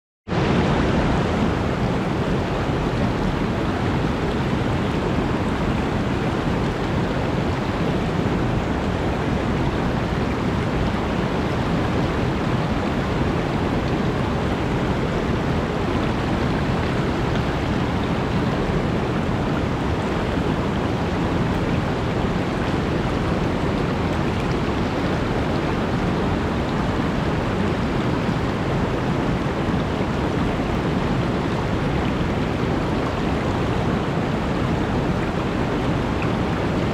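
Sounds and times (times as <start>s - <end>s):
mountain stream rushing: 0.3s - 36.9s.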